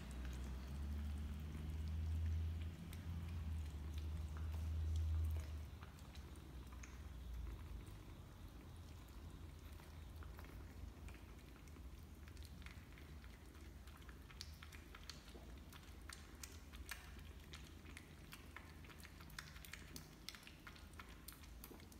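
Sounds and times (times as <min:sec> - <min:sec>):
kittens lapping: 0:00.0 - 0:21.9.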